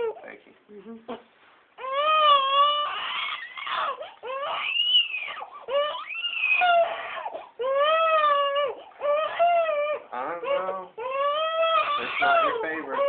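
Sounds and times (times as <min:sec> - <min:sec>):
infant wailing: 0:01.8 - 0:13.0.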